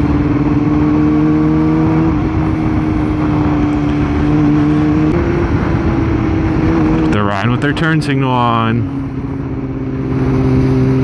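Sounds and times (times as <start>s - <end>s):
motorcycle engine cruising: 0.0s - 11.0s
rushing wind noise: 0.0s - 11.0s.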